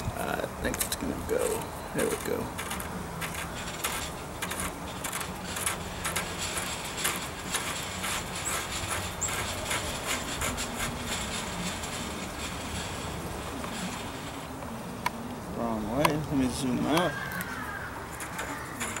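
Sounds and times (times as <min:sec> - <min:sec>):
metallic clicks and scrapes: 0:00.7 - 0:15.4, 0:18.1 - 0:19.0.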